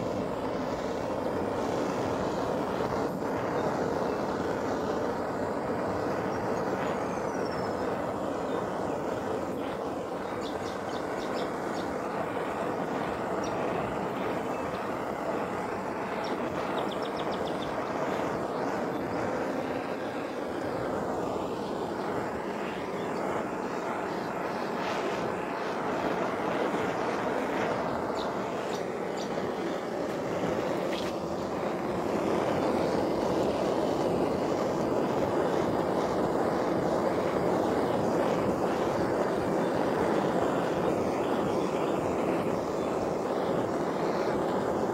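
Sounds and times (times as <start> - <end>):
gas blowtorch hissing: 0.0 - 44.9.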